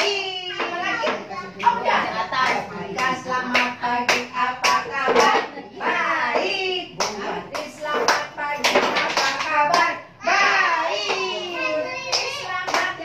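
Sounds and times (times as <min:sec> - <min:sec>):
rhythmic hand-clapping: 0:00.0 - 0:13.0
voices singing: 0:00.0 - 0:13.0.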